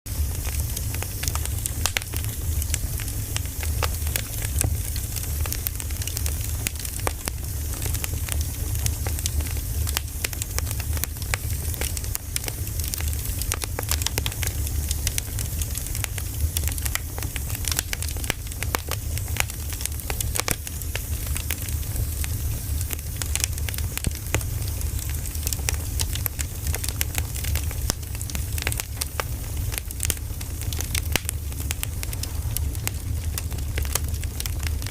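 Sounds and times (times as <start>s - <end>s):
firewood crackling and popping: 0.1s - 34.9s
steady low rumble: 0.1s - 34.9s.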